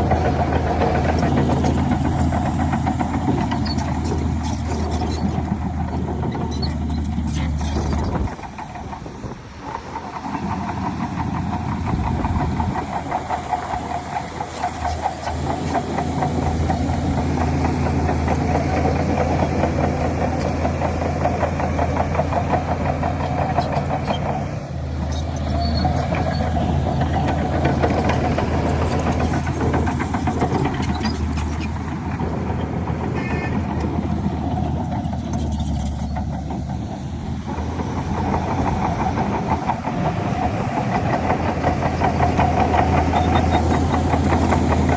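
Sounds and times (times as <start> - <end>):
bulldozer diesel engine running: 0.0 - 44.9
rapid clatter: 0.0 - 44.9.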